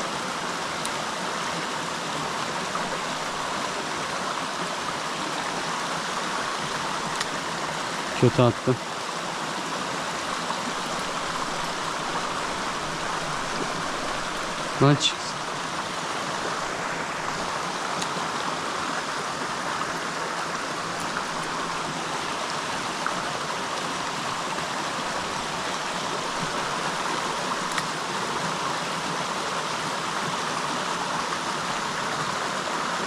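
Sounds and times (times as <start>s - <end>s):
creek water flowing: 0.0s - 33.0s.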